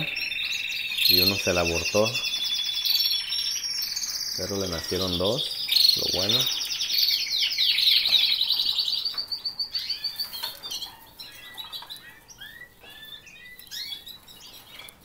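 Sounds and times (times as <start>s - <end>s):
canaries singing and chirping: 0.0s - 15.0s.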